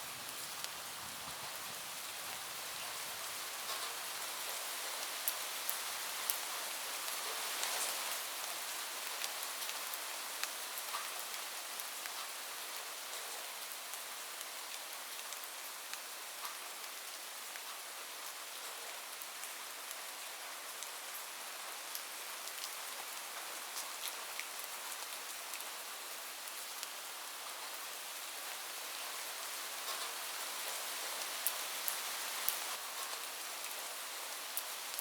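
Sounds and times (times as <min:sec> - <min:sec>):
rain falling on a roof: 0:00.0 - 0:35.0.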